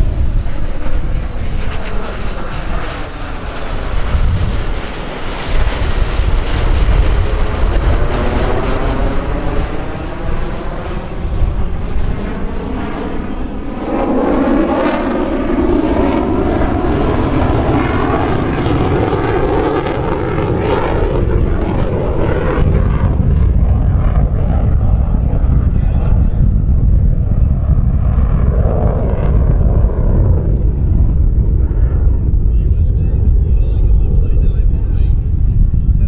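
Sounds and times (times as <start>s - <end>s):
deep jet rumble: 0.0s - 36.0s
jet rush: 0.0s - 36.0s
propeller aircraft engines droning: 0.0s - 36.0s.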